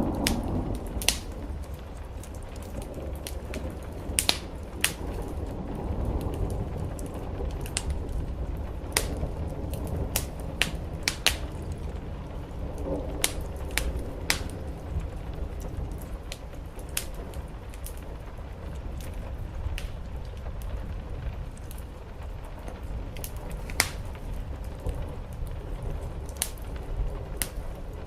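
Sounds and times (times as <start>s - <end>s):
rain on a roof: 0.0s - 28.0s
wood fire crackling and popping: 0.0s - 28.0s.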